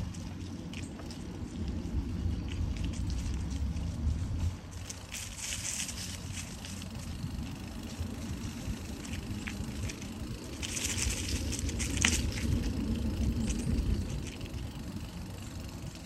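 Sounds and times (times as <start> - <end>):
bicycle tyres rolling on pavement: 0.0 - 16.0
dry leaves crackling: 0.0 - 16.0.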